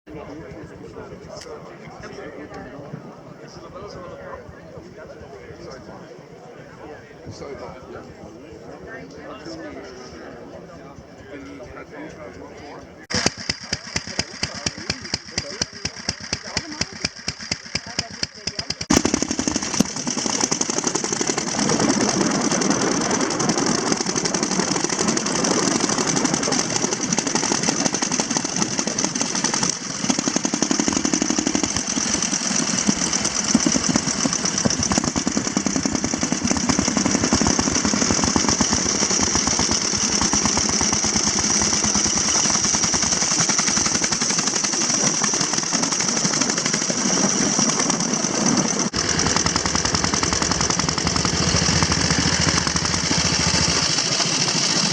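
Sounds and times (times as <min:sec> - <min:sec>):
motorcycle engines clattering: 0:09.2 - 0:54.9.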